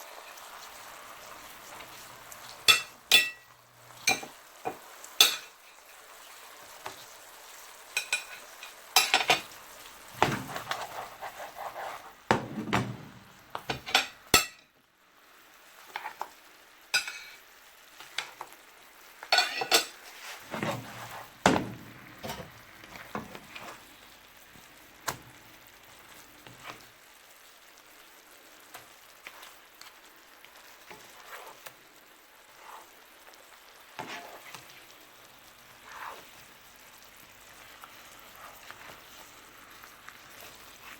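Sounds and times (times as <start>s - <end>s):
utensil stirring against pan: 0.0s - 12.8s, 15.6s - 25.1s, 25.7s - 27.5s, 28.2s - 40.9s
food sizzling in a pan: 0.0s - 40.9s.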